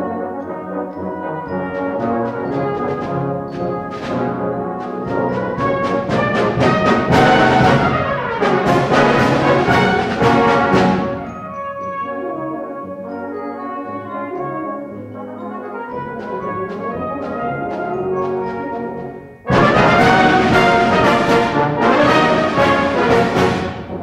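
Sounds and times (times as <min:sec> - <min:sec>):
brass band playing a march: 0:00.0 - 0:24.0
percussion strokes: 0:00.4 - 0:24.0.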